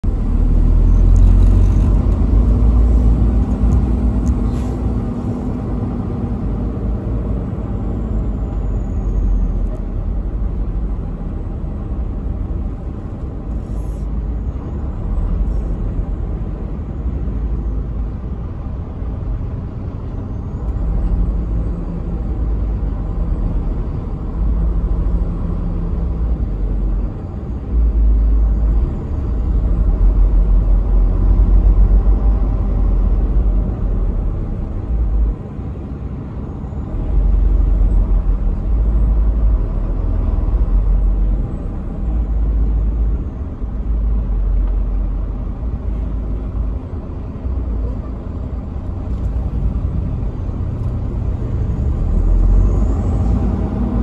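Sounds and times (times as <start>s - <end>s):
diesel engine low rumble: 0.0s - 54.0s.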